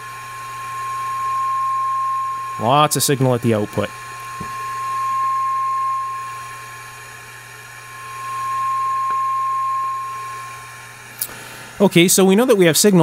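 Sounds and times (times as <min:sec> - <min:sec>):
steady test tone: 0:00.0 - 0:11.2.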